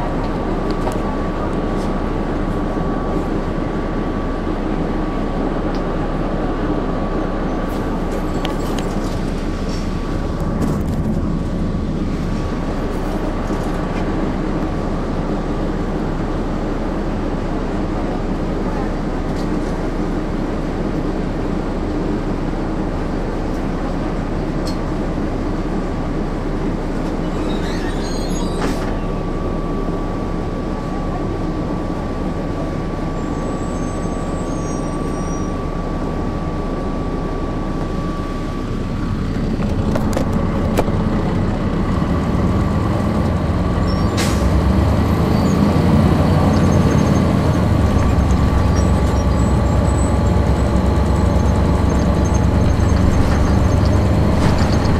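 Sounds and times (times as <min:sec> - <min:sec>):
bus diesel engine running: 0:00.0 - 0:54.9.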